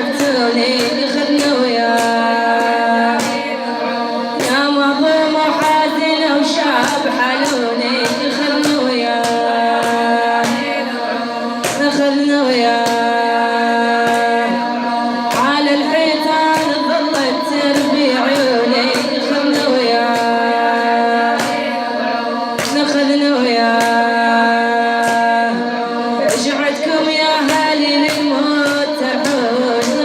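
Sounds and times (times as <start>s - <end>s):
rhythmic sharp strikes: 0.0s - 30.0s.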